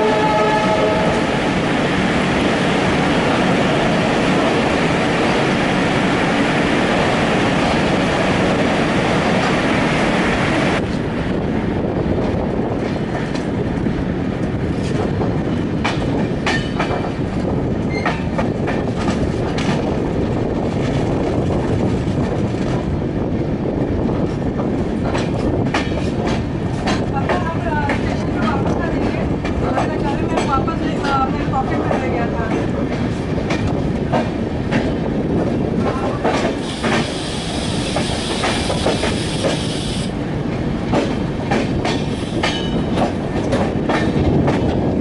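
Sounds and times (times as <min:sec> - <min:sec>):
train rumbling and rushing: 0:00.0 - 0:45.0.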